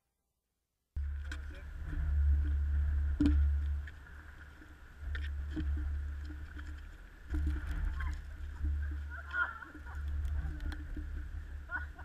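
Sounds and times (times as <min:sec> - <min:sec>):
wind rumbling over microphone: 0:01.0 - 0:12.0.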